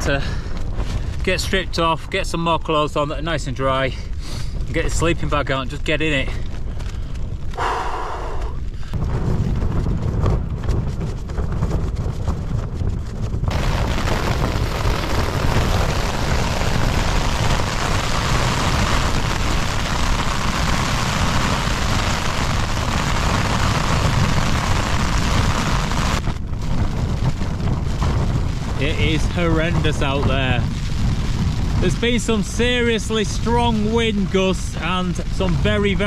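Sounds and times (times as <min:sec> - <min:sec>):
rain and hail on a tent: 0:00.0 - 0:02.1, 0:03.4 - 0:36.0
wind buffeting a tent: 0:00.0 - 0:36.0.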